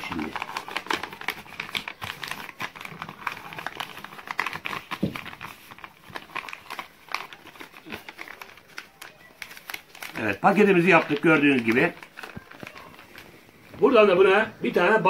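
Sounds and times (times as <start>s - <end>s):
paper folding and crinkling: 0.0s - 15.0s.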